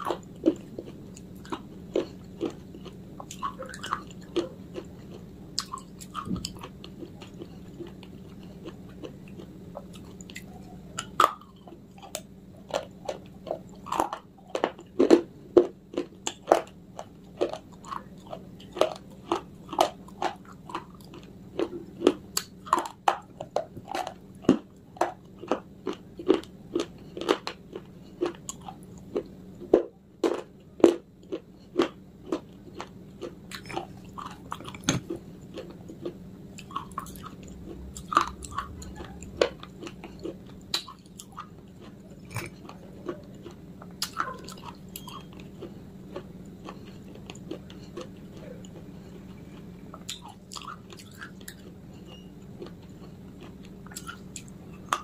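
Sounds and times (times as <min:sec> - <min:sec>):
crunching and chewing dry clay: 0:00.0 - 0:55.0.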